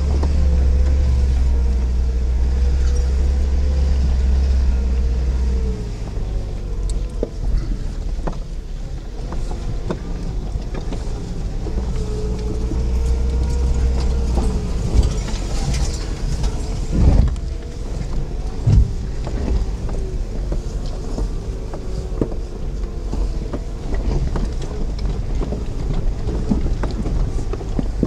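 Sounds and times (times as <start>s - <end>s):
body and suspension rattling: 0.0s - 28.0s
engine rumble with whine: 0.0s - 28.0s.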